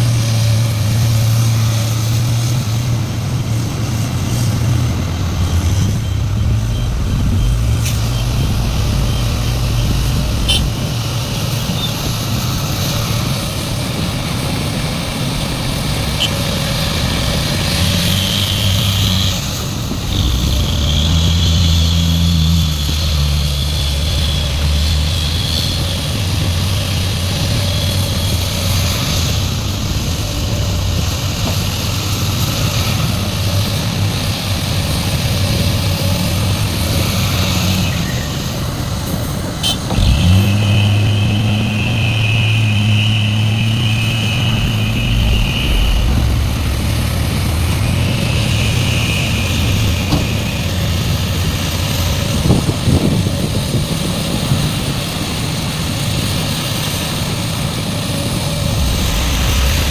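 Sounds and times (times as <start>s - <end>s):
excavator diesel engine running: 0.0s - 59.9s
high steady whine: 2.6s - 37.1s, 37.8s - 59.9s.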